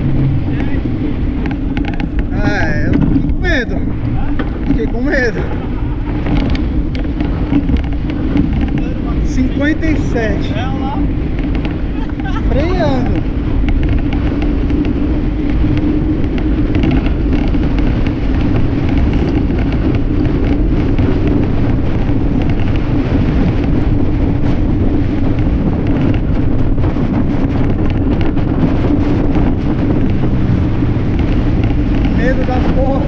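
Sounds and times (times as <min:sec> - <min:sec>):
steady low hum: 0:00.0 - 0:33.0
wind buffeting microphone: 0:00.0 - 0:33.0.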